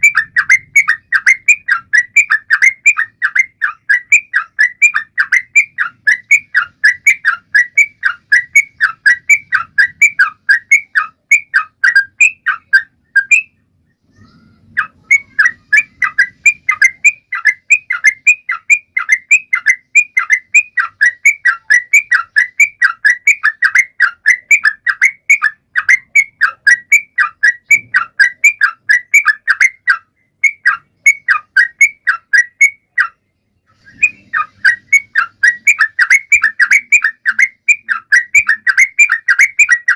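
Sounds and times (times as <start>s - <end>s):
bird singing whistled chirps: 0.0s - 39.9s.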